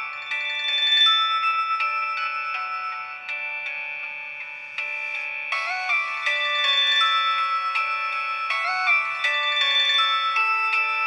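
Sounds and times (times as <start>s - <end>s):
bell-like phone ringtone melody: 0.0s - 11.0s.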